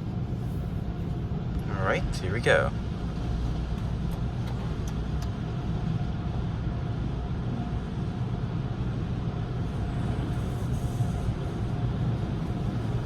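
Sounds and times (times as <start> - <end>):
low rumble inside car: 0.0 - 13.0.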